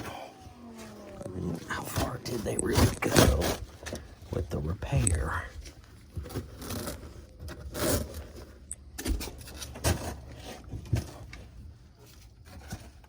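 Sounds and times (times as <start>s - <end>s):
hand scraping fiberglass and wood: 0.0s - 13.0s.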